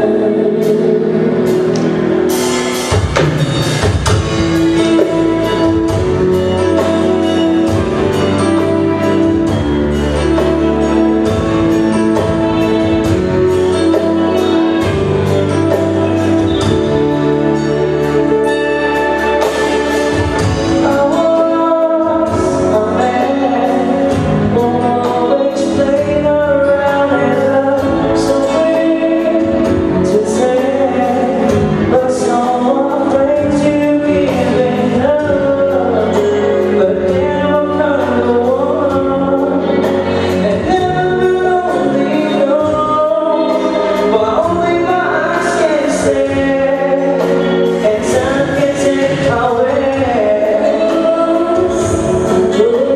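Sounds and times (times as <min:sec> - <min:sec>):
live band playing amplified music: 0:00.0 - 0:52.9
person singing: 0:00.0 - 0:52.9.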